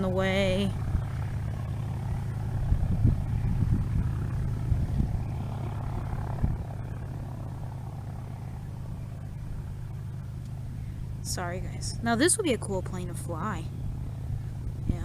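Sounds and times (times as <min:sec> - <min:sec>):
distant propeller aircraft engine: 0:00.0 - 0:15.0
wind gusts on microphone: 0:00.0 - 0:15.0.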